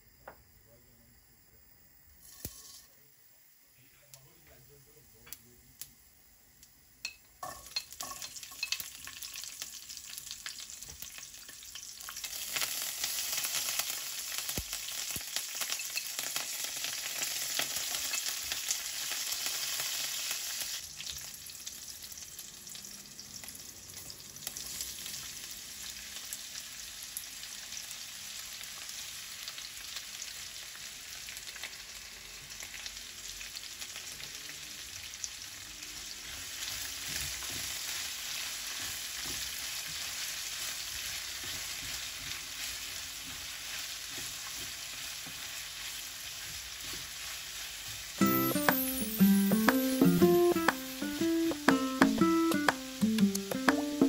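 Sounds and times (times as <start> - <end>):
hot oil sizzling in a pan: 2.2 - 3.0, 5.0 - 54.0.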